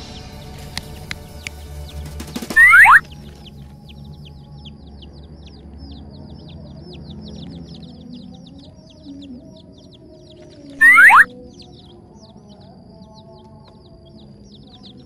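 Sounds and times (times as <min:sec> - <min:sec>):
baby chicks peeping: 0:00.0 - 0:15.0.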